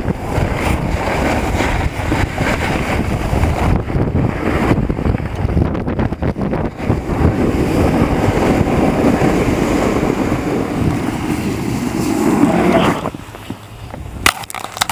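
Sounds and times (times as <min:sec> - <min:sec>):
snowboard sliding over packed snow: 0:00.0 - 0:14.9
wind on microphone: 0:00.0 - 0:14.9.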